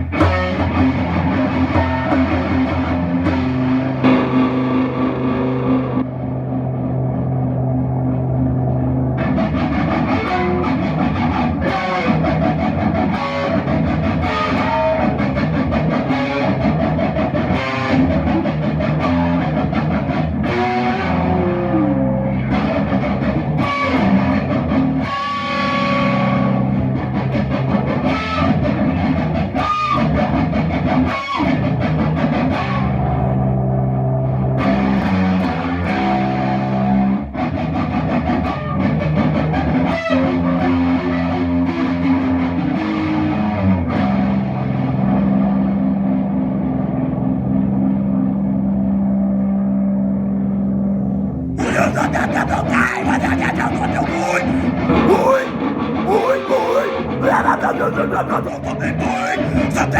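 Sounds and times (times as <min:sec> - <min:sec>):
instrumental guitar music: 0:00.0 - 0:59.9.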